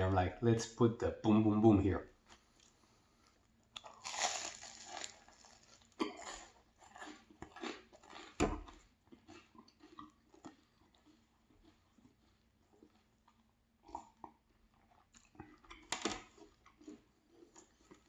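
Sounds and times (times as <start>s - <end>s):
crunchy chewing: 2.3s - 18.0s
biting crisp pastry: 3.5s - 18.0s.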